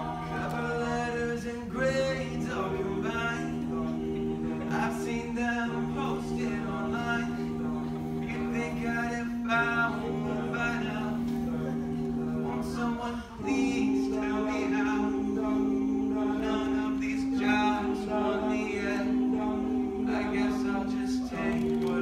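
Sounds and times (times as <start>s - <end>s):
a cappella group singing: 0.0s - 22.0s.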